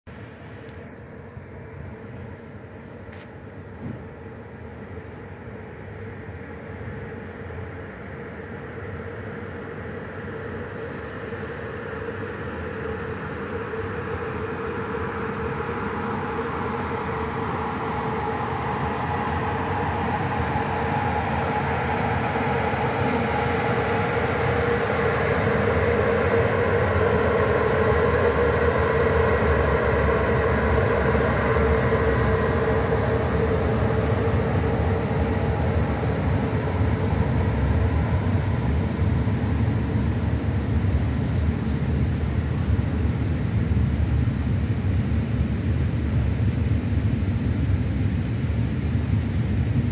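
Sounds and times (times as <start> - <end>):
freight train rumbling past: 0.1 - 49.9
steady whine: 0.1 - 49.9.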